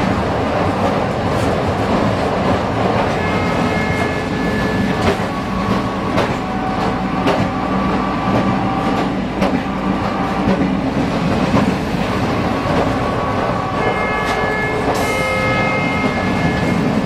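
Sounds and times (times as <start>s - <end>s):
tram wheels rumbling: 0.0s - 17.0s.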